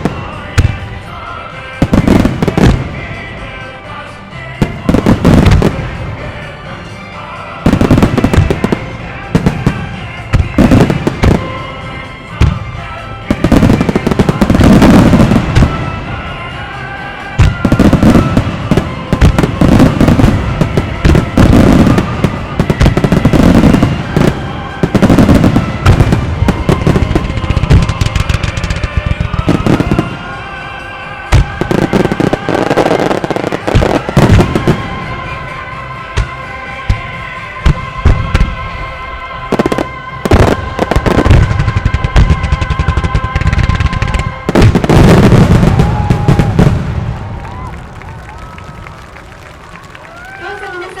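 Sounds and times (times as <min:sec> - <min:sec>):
fireworks booming and crackling: 0:00.0 - 0:51.0
song over loudspeakers: 0:00.0 - 0:51.0.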